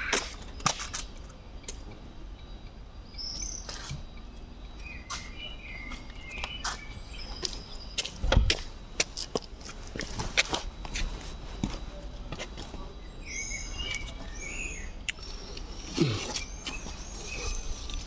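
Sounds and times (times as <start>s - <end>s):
birds chirping: 0.0s - 9.0s, 10.7s - 18.0s.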